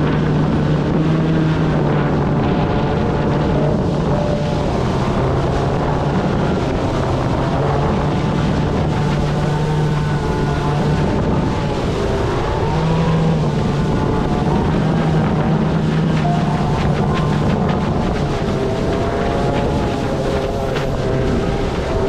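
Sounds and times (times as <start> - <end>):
boat motor hum: 0.0 - 22.0
water rushing: 0.0 - 22.0.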